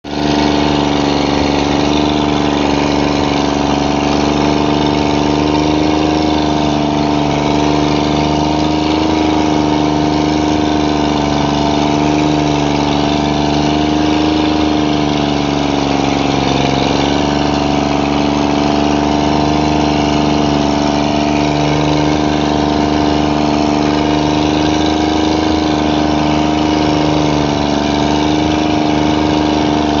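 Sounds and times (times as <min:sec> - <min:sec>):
motor running steadily: 0:00.0 - 0:30.0.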